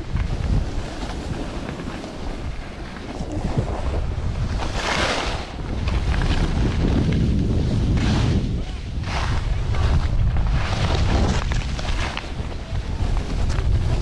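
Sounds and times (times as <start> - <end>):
skis scraping on packed snow: 0.0 - 14.0
wind buffeting microphone: 0.0 - 14.0.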